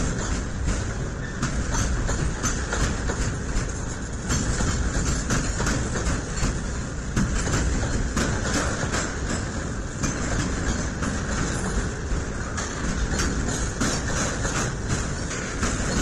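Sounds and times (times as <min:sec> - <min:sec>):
train wheels rumbling on rail: 0:00.0 - 0:16.0
wheels clacking over rail joints: 0:00.0 - 0:16.0.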